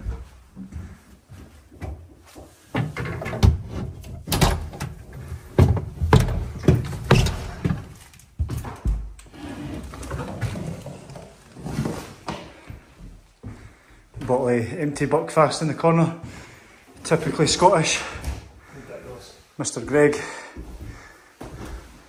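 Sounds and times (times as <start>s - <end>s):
footsteps: 0.0s - 3.0s, 5.1s - 22.0s.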